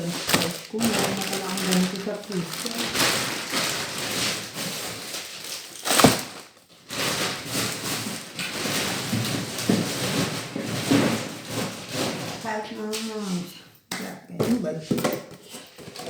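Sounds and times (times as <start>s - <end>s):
grocery packaging rustling: 0.0s - 13.5s.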